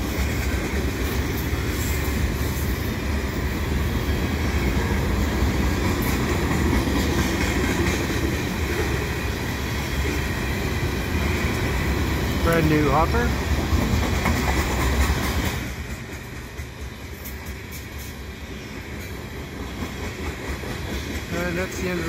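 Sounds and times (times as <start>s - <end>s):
freight train wheels rumbling on rails: 0.0s - 22.0s.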